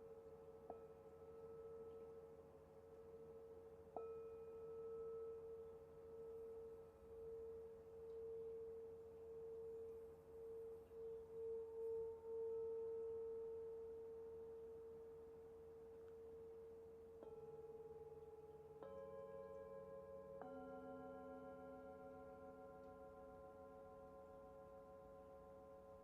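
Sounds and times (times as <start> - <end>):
singing bowl ringing: 3.1 - 26.0.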